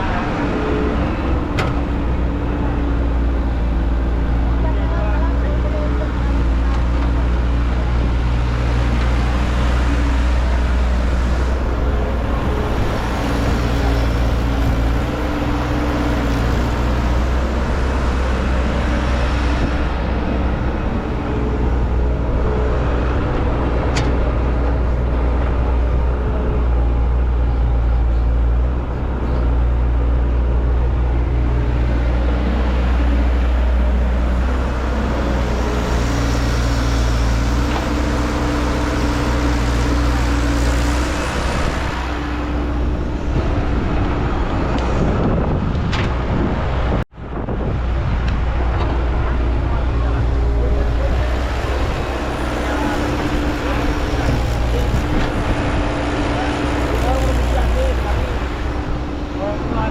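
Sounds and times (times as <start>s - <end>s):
heavy machine engine droning: 0.0s - 59.9s.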